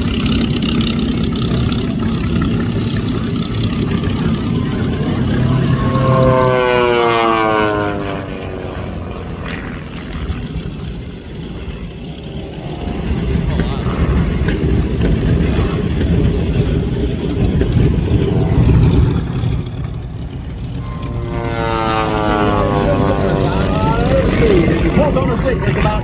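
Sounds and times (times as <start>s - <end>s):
propeller plane engine passing: 0.0s - 26.0s.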